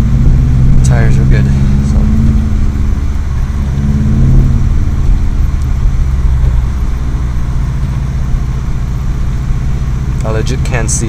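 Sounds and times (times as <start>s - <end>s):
car engine in snow: 0.0s - 11.0s.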